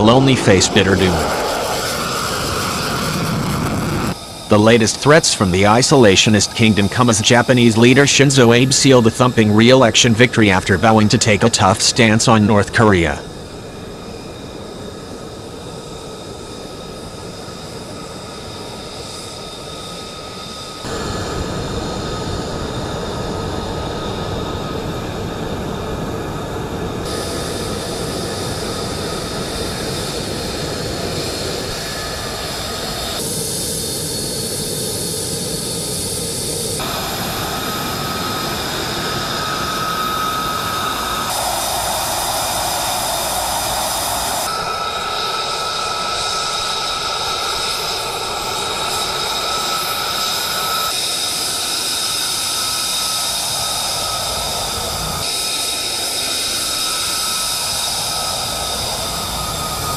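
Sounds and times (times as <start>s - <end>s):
jet engine whining: 0.0s - 59.9s.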